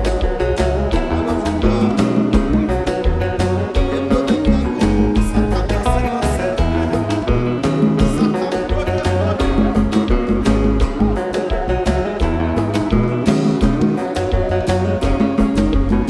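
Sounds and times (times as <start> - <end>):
bass line: 0.0 - 16.0
drum beat: 0.0 - 16.0
guitar: 0.0 - 16.0
live band music: 0.0 - 16.0.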